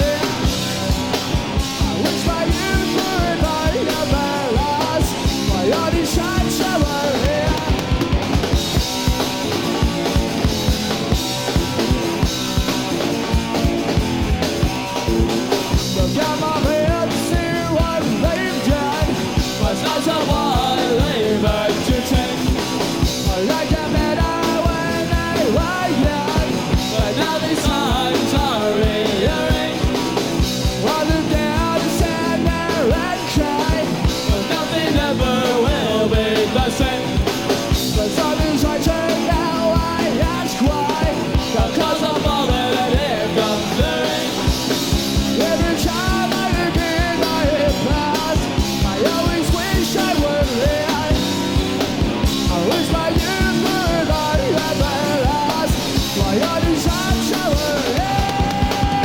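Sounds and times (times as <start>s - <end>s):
fast drum hits: 0.0s - 59.0s
punk rock band playing live: 0.0s - 59.0s.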